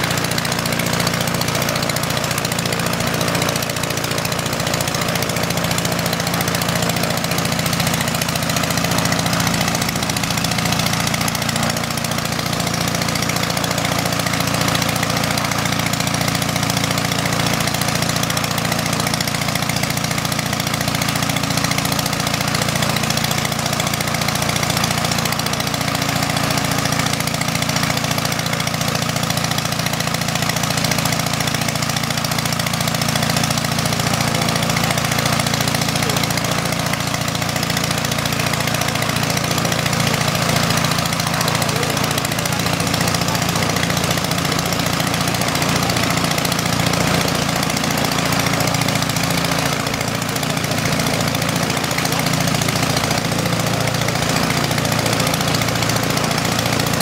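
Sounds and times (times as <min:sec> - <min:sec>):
biplane engines running: 0:00.0 - 0:57.0.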